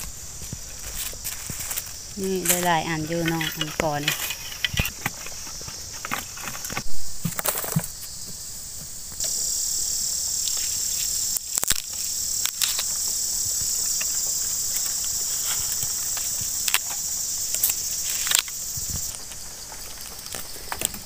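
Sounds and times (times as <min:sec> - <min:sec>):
dry bamboo stems cracking: 0:00.0 - 0:07.8, 0:10.4 - 0:21.0
high-pitched insect drone: 0:00.0 - 0:21.0.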